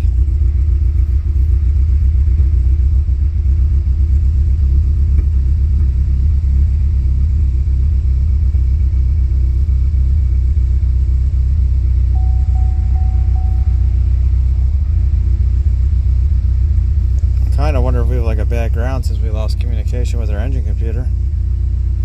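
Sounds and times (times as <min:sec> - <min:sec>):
car engine idling roughly: 0:00.0 - 0:22.0.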